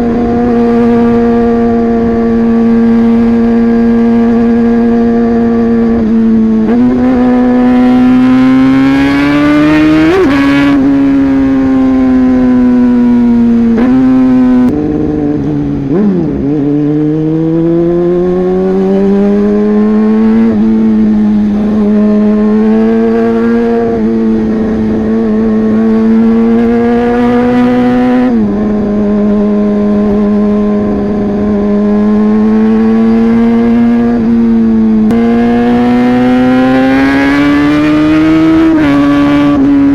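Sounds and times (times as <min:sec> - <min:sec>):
motorcycle engine with loud exhaust: 0:00.0 - 0:39.9.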